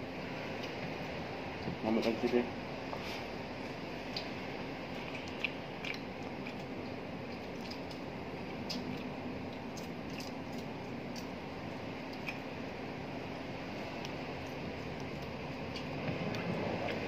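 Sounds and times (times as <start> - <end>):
background hiss and hum: 0.0 - 17.0.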